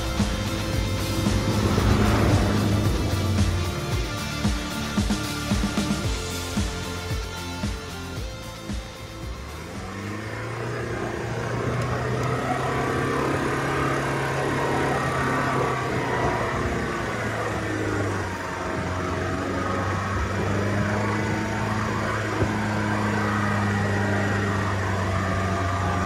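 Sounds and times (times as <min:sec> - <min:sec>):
diesel engine under load: 0:00.0 - 0:26.0.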